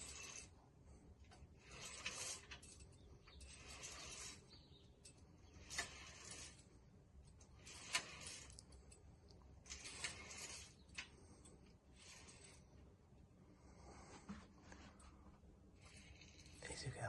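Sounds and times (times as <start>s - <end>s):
drying rack rasping slides: 0.0s - 12.9s, 13.7s - 17.0s.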